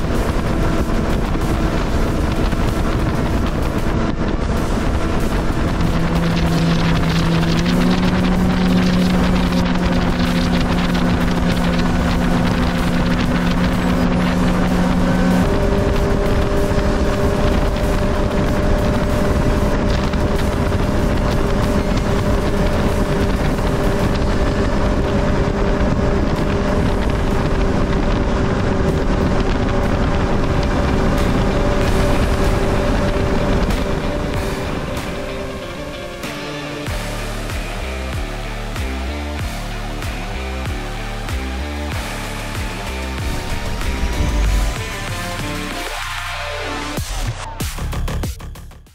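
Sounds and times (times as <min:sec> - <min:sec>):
wind on microphone: 0:00.0 - 0:46.4
hull spray rushing: 0:00.0 - 0:47.1
outboard motor running: 0:00.0 - 0:48.0.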